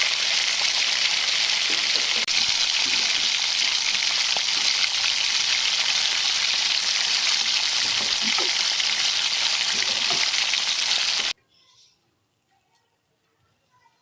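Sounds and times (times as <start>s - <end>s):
chicken sizzling in hot oil: 0.0s - 11.4s.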